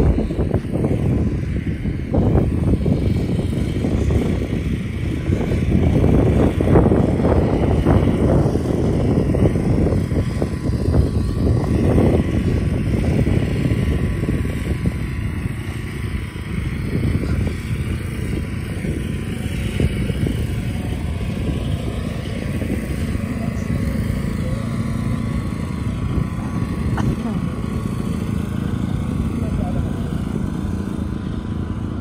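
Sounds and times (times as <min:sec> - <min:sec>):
steady road traffic: 0:00.0 - 0:32.0
wind buffeting microphone: 0:00.0 - 0:32.0.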